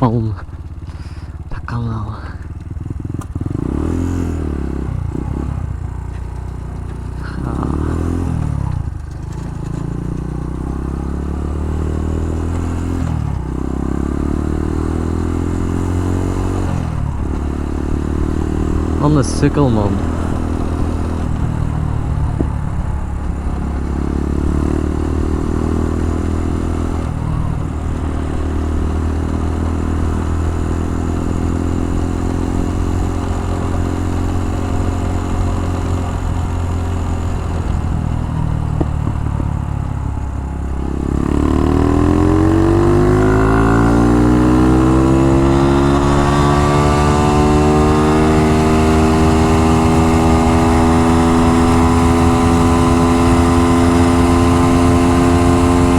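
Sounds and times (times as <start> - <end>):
minibike engine revving: 2.4 - 55.9.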